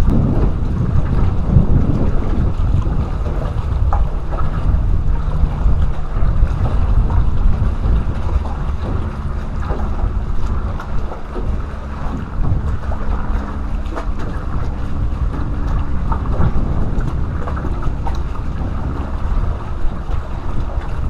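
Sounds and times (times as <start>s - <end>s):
water lapping at boat hull: 0.0s - 21.0s
wind buffeting microphone: 0.0s - 21.0s.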